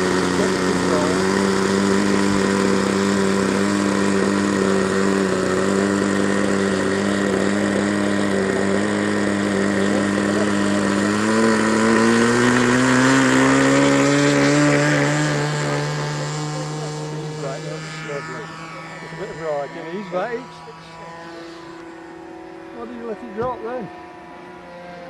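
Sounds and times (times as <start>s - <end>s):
model plane engine and propeller: 0.0s - 25.0s.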